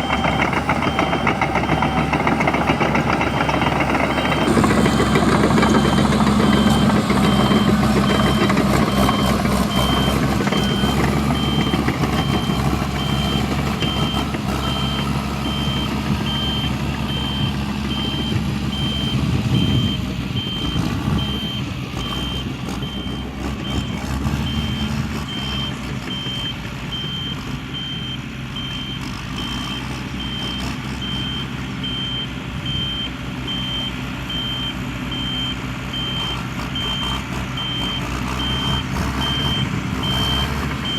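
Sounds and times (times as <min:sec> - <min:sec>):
diesel engine running: 0:00.0 - 0:40.9
reversing alarm beeping: 0:00.0 - 0:40.9.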